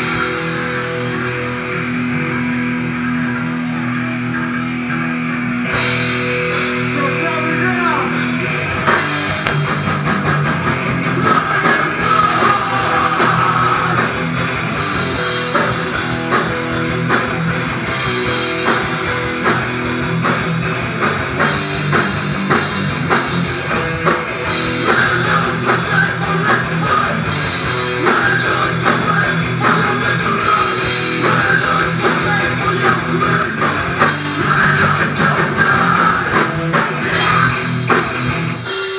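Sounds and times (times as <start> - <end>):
drums crashing: 0.0 - 2.0, 5.7 - 38.9
electric guitar chords: 0.0 - 38.9
rock band playing: 0.0 - 38.9.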